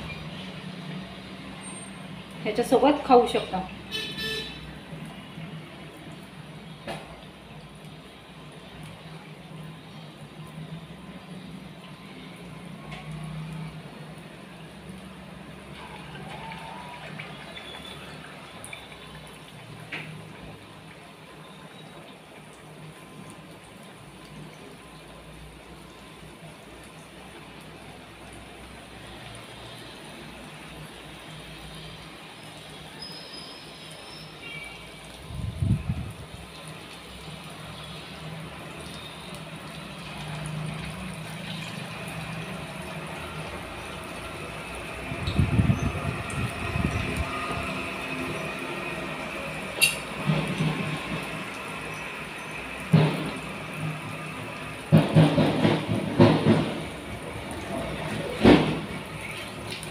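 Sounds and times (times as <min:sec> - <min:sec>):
oil sizzling while deep-frying: 0:00.0 - 0:59.9.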